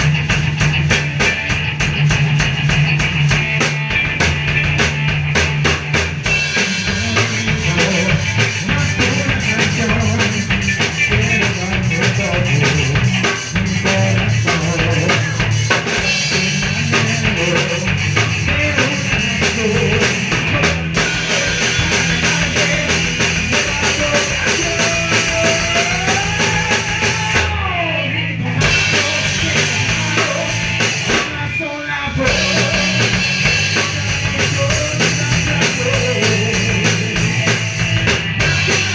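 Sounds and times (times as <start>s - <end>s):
drum kit: 0.0s - 27.8s, 28.4s - 38.9s
ska punk band playing: 0.0s - 38.9s.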